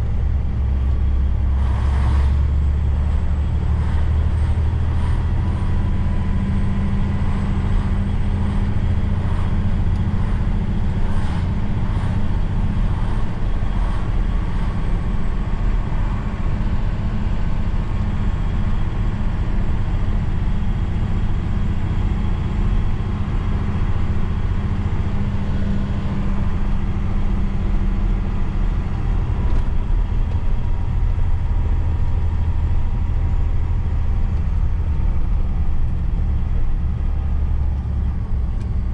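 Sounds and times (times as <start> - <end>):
truck engine droning: 0.0 - 38.9.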